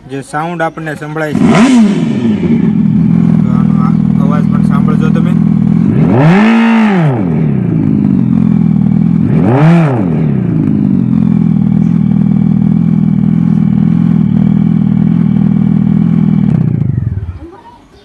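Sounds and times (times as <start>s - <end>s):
simulated motorcycle engine from speaker: 1.1s - 17.6s.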